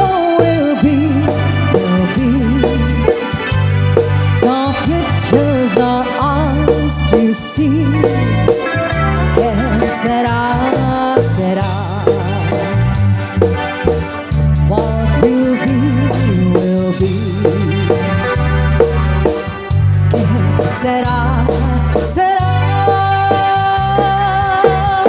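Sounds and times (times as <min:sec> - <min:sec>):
even drum beat: 0:00.0 - 0:25.0
organ-like keyboard melody: 0:00.0 - 0:25.0
steady bass notes: 0:00.0 - 0:25.0.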